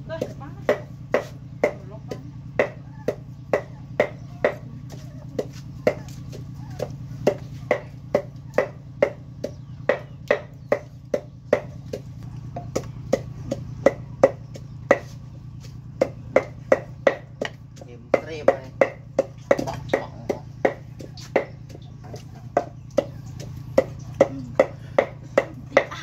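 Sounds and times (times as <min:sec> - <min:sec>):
knife chopping on wooden board: 0:00.2 - 0:26.0.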